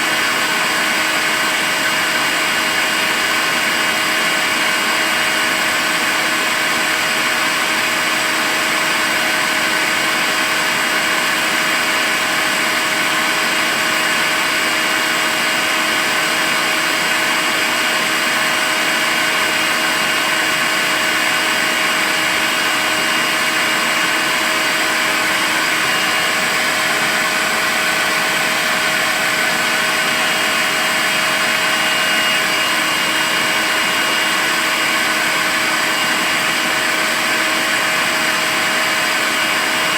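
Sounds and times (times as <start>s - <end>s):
cordless vacuum cleaner running: 0.0s - 39.9s.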